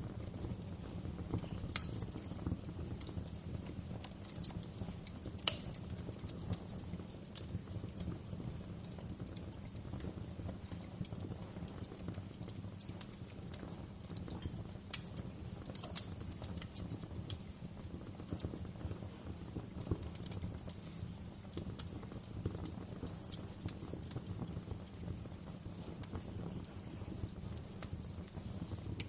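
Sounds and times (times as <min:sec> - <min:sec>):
fire popping and snapping: 0:00.0 - 0:29.0
log fire crackling: 0:00.0 - 0:29.0.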